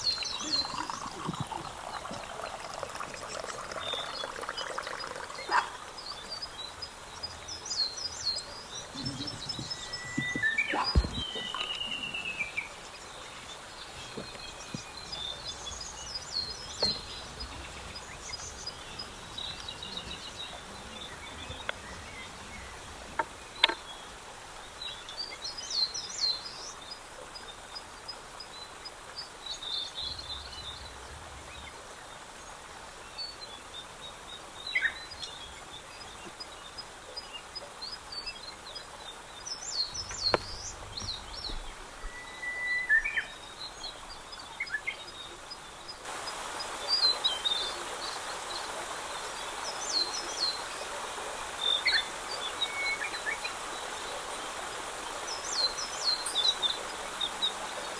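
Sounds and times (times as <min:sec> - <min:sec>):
birds chirping and singing: 0:00.0 - 0:26.8, 0:34.6 - 0:57.9
low background hiss: 0:00.0 - 0:57.9.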